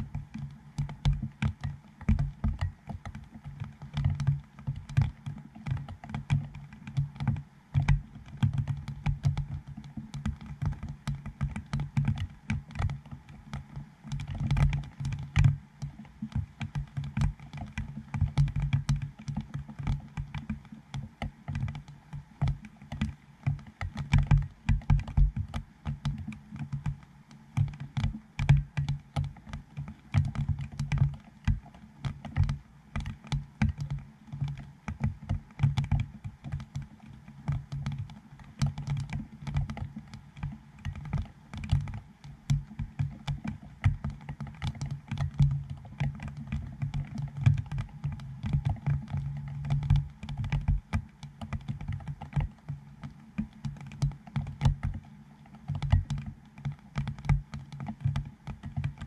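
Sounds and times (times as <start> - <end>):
raindrops pattering on camera: 0.0 - 59.0.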